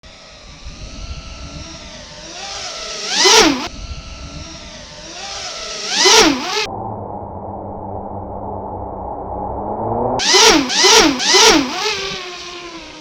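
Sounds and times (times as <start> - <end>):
quadcopter motors whining fly-by: 0.0 - 13.0.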